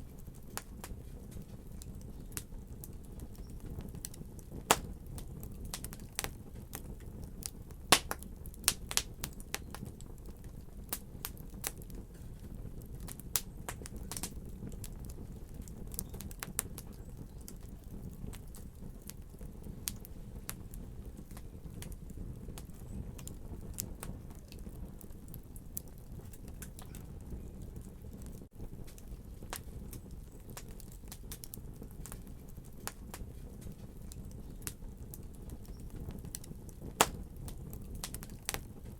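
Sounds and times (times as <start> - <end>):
fire crackling in fireplace: 0.0 - 38.9.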